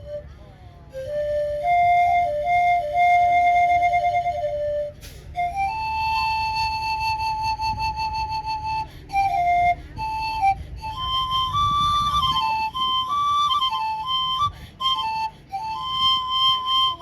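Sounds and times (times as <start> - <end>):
bamboo panpipe melody: 0.0 - 17.0.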